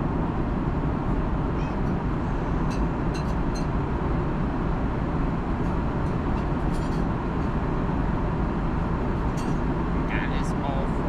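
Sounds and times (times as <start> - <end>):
airliner cabin engine roar: 0.0 - 11.0
faint steady hum: 0.0 - 11.0.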